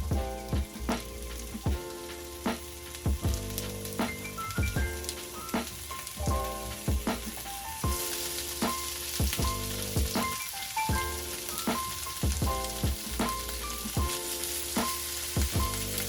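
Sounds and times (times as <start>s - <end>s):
background music with drum beat: 0.0s - 16.0s
food sizzling in a pan: 0.0s - 16.0s.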